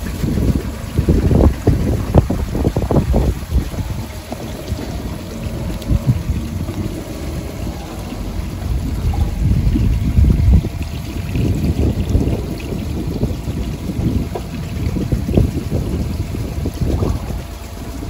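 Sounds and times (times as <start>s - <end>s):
water trickling into trough: 0.0s - 18.0s
wind rumbling on microphone: 0.0s - 18.0s.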